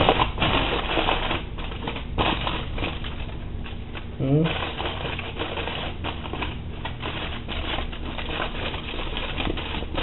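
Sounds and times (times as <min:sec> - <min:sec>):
aluminium foil crinkling: 0:00.0 - 0:10.0.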